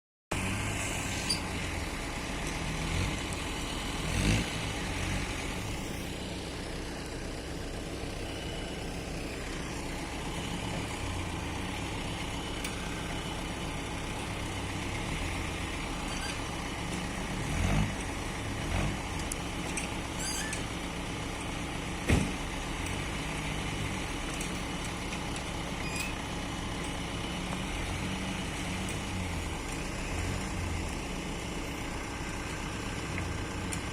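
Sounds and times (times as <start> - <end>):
excavator diesel engine working: 0.3 - 33.9.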